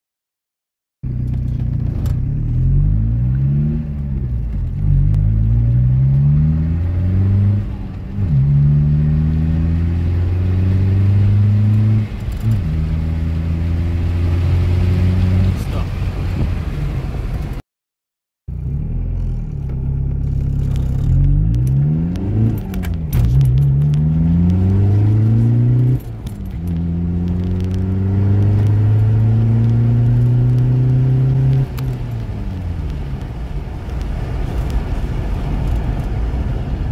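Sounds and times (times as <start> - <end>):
diesel engine accelerating: 1.1 - 17.6, 18.5 - 36.9.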